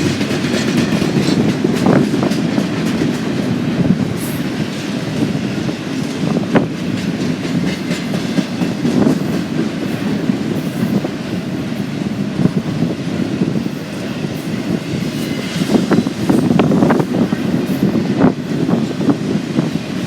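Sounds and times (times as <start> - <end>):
freight train cars rolling past: 0.0 - 20.0
wheels clacking on rail: 0.0 - 20.0.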